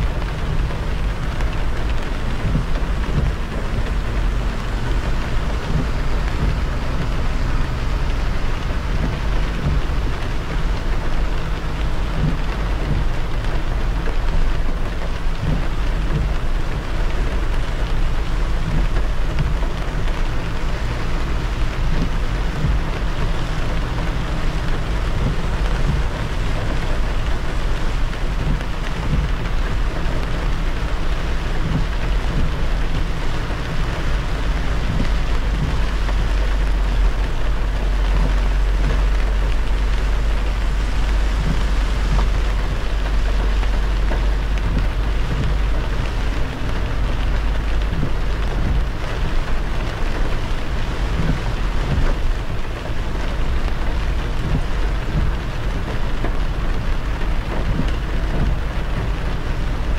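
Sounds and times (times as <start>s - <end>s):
deep road rumble: 0.0s - 59.9s
rain and tyre spray hiss: 0.0s - 59.9s.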